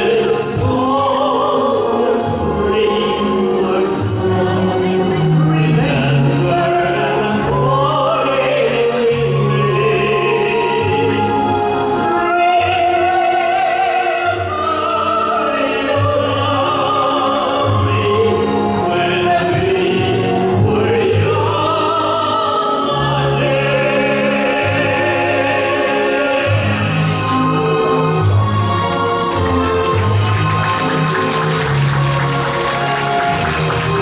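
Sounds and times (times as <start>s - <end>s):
operatic singing with vibrato: 0.0s - 34.0s
orchestral accompaniment: 0.0s - 34.0s.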